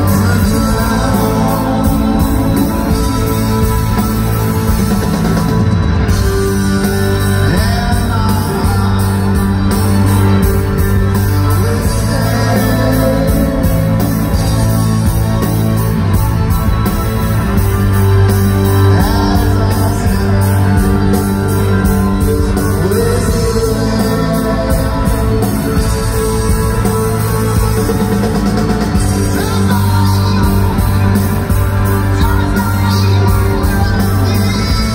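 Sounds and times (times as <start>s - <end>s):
lead singer singing: 0.0s - 15.8s, 17.9s - 34.9s
live rock band playing: 0.0s - 34.9s.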